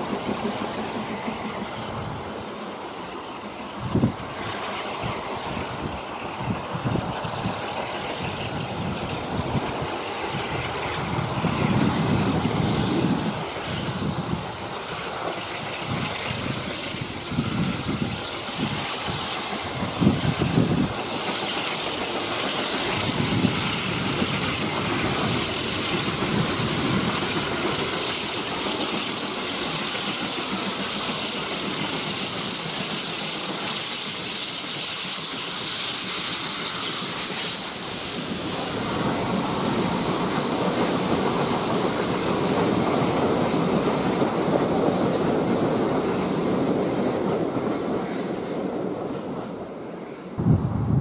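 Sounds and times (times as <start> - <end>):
coaches rumbling on rails: 0.0 - 51.0
steam locomotive hissing steam: 0.0 - 51.0.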